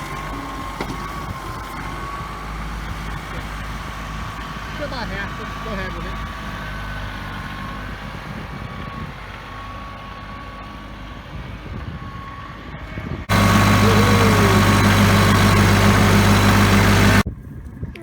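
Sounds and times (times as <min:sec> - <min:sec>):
tractor engine running: 0:00.0 - 0:11.0, 0:13.3 - 0:17.3.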